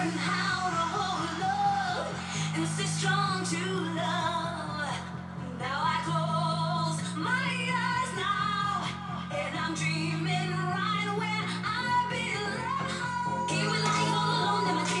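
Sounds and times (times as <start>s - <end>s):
long held bass notes: 0.0s - 15.0s
pop-dance record playing: 0.0s - 15.0s
woman singing: 0.0s - 15.0s.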